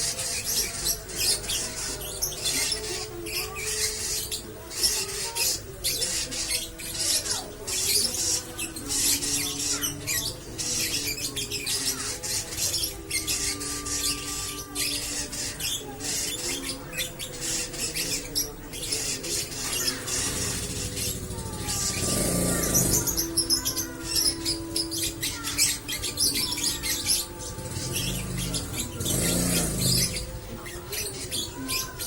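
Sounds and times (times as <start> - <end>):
background music: 0.0 - 32.0
lovebird chattering: 0.0 - 32.0.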